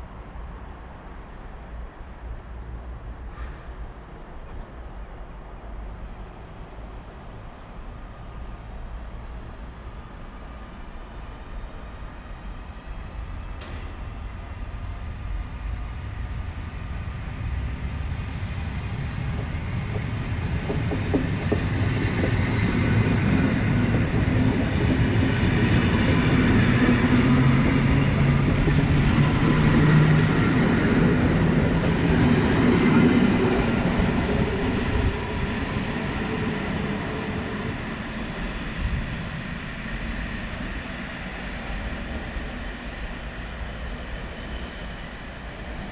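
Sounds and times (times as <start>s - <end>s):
train passing: 0.0s - 45.9s.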